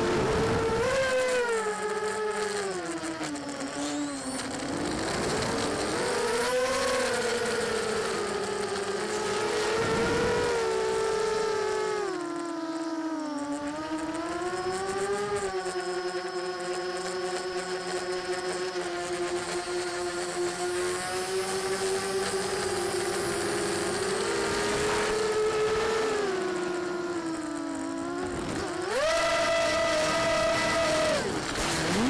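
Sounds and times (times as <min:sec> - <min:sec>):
quadcopter motors whining: 0:00.0 - 0:32.0.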